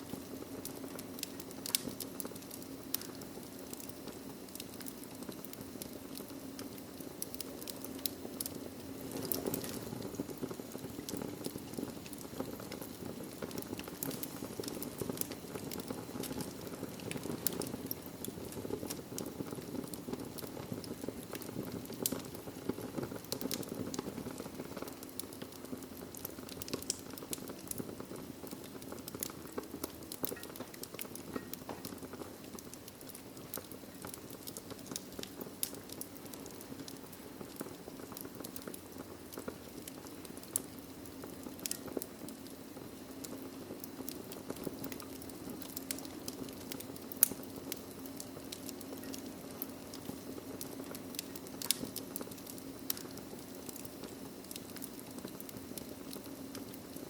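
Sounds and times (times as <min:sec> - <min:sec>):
fire crackling and popping: 0:00.0 - 0:57.0
low rush of flames: 0:00.0 - 0:57.0.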